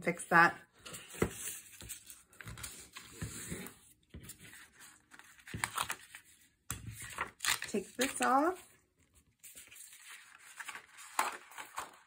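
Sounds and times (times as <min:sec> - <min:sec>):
paper rustling: 0:00.8 - 0:12.0.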